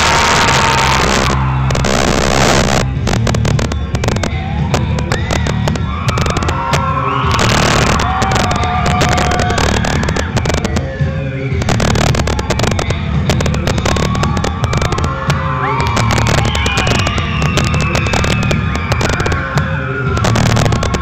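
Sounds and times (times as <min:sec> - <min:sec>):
bass-heavy music over loudspeaker: 0:00.0 - 0:21.0.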